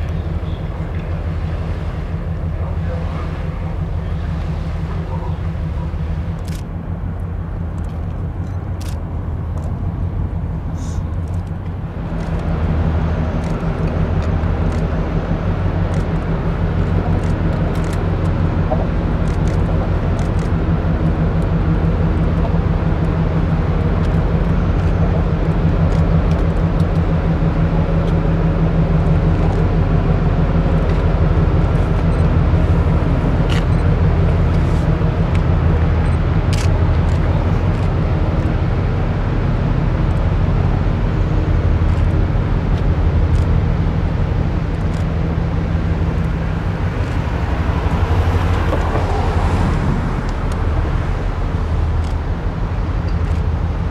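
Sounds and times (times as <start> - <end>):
ship diesel engines droning: 0.0 - 53.9.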